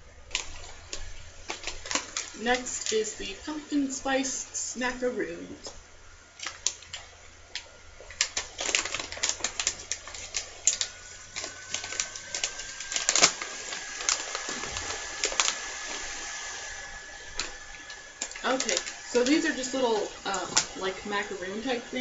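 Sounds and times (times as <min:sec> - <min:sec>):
snack packaging crinkling: 0:00.1 - 0:04.4, 0:06.2 - 0:21.8.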